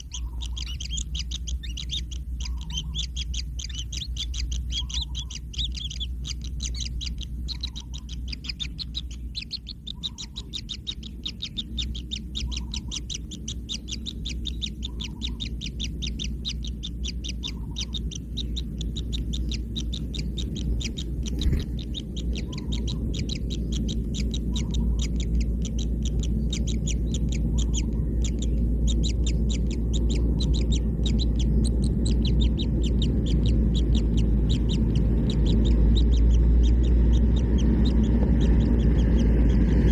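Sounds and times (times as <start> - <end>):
chicks chirping: 0.0 - 39.9
low rumble: 0.0 - 39.9.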